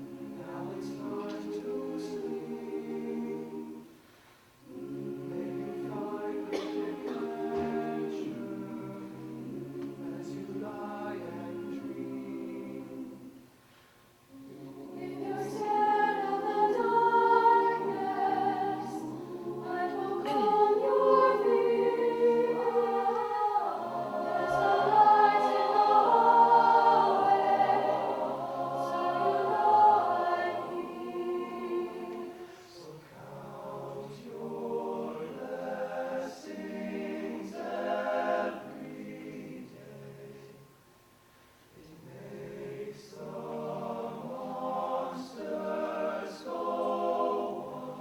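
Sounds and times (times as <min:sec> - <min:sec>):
a cappella choir singing: 0:00.0 - 0:40.8, 0:41.7 - 0:48.0.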